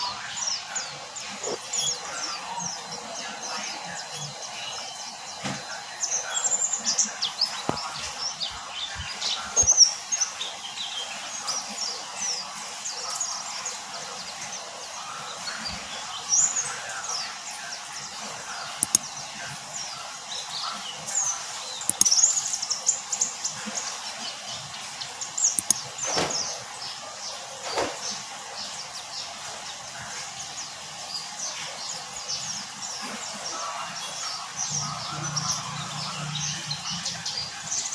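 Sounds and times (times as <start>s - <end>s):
bird chirping and twittering: 0.0s - 37.9s.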